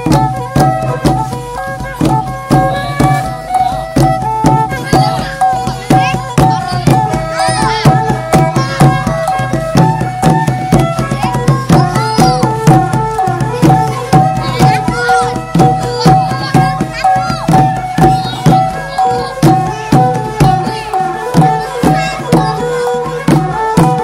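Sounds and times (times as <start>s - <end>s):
hand drums beaten with palms: 0.0s - 24.0s
held pitched notes: 0.0s - 24.0s.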